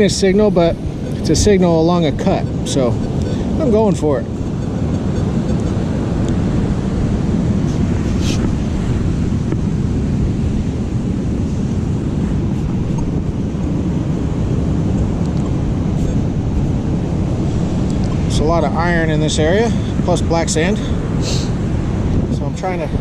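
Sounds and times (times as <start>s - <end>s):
ocean surf rushing: 0.0s - 23.0s
wind buffeting microphone: 0.0s - 23.0s.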